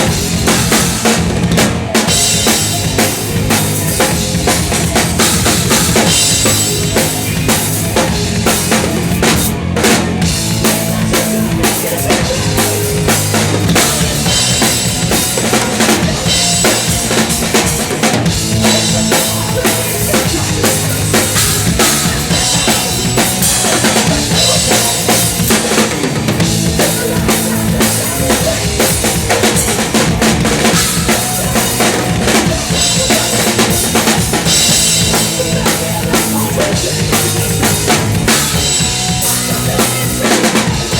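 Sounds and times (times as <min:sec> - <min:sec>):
thrash metal band playing: 0:00.0 - 0:40.9.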